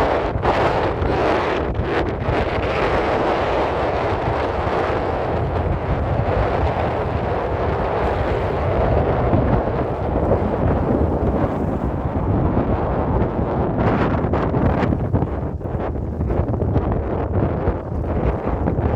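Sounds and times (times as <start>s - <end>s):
sea waves washing: 0.0s - 18.9s
wind buffeting microphone: 0.0s - 18.9s.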